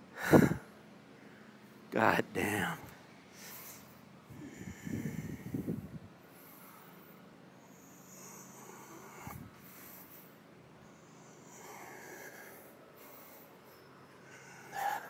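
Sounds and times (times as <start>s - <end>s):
faint breathing: 0.0s - 1.9s, 3.3s - 15.0s.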